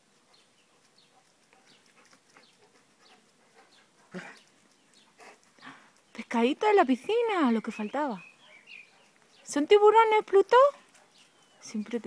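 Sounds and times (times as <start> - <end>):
faint birdsong chirping: 0.0 - 12.0.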